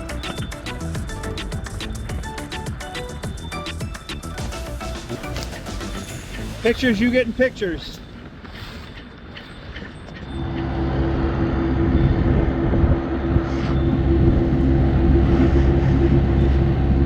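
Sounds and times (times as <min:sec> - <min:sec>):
engine running steadily: 0:00.0 - 0:07.1, 0:09.8 - 0:17.0.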